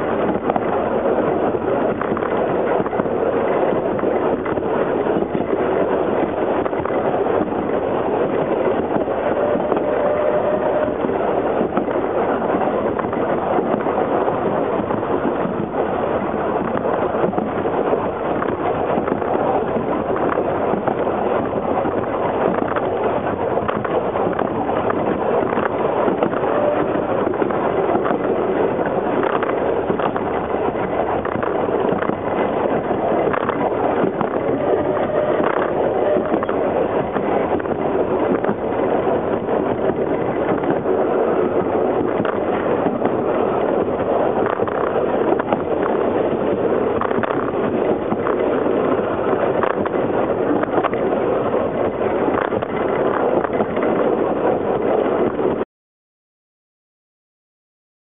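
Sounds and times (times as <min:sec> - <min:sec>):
railway carriage rumbling: 0:00.0 - 0:55.6
wheels rattling on track: 0:00.0 - 0:55.6.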